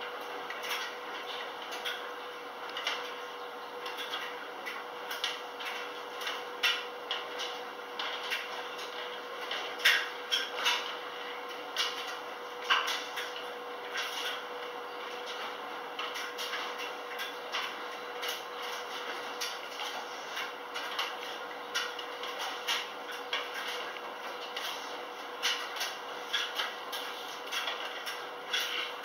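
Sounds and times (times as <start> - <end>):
washing machine drum hum: 0.0 - 29.0.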